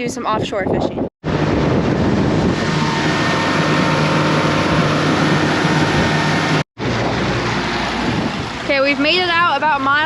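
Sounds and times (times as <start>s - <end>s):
outboard motor running: 1.2s - 10.0s
water rushing: 1.3s - 10.0s.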